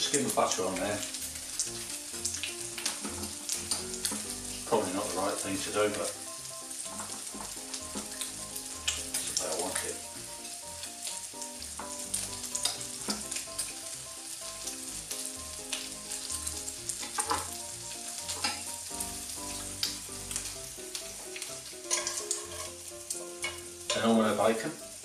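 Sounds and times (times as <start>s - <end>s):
bacon sizzling in a pan: 0.0s - 25.0s
soft background music: 0.0s - 25.0s.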